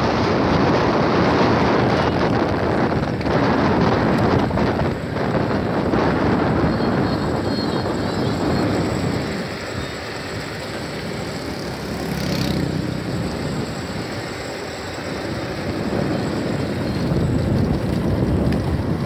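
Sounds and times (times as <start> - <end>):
motorcycle engine drone: 0.0 - 19.0
wind rushing over microphone: 0.0 - 19.0.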